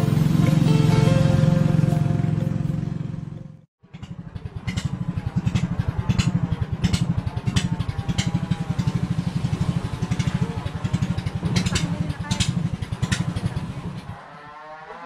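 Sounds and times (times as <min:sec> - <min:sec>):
boat engine chugging: 0:00.0 - 0:14.8.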